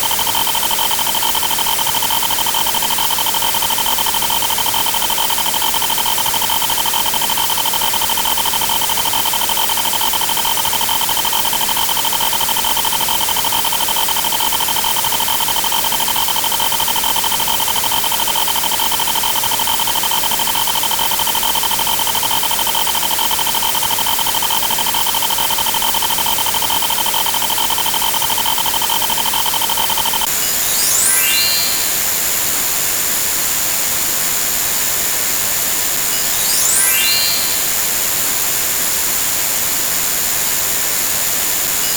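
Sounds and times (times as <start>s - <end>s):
steady high tones: 0.0s - 33.2s, 36.0s - 38.6s.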